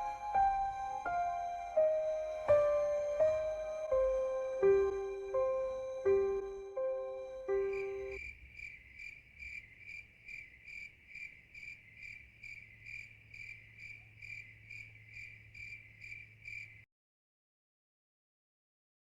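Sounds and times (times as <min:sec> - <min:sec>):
cricket chirping: 0:00.0 - 0:16.9.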